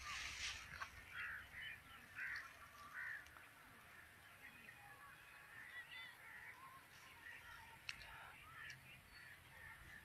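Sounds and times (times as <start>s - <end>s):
faint bird calls: 0.0s - 10.0s.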